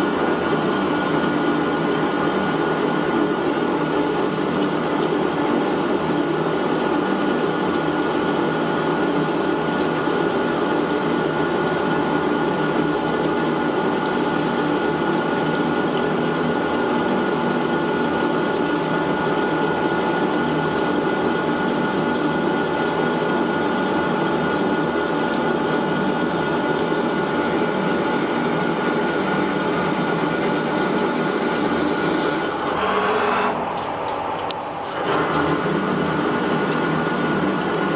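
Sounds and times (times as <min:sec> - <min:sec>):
lathe machine whirring: 0:00.0 - 0:37.9.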